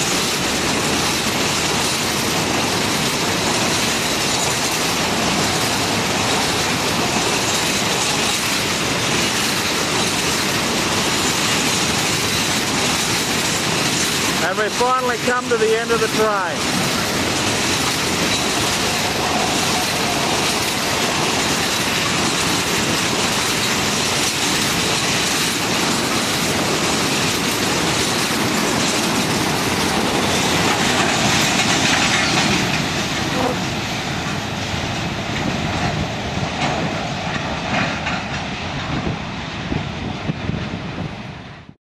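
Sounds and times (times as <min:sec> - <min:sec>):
steel wheels on rails: 0:00.0 - 0:41.8.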